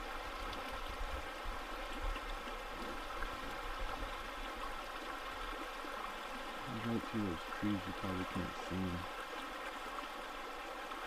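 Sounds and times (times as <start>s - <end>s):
shallow rocky river flowing: 0.0s - 11.0s.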